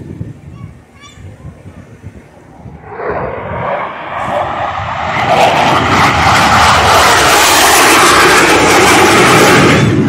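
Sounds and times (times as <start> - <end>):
fighter jets flying past low: 0.0 - 10.0.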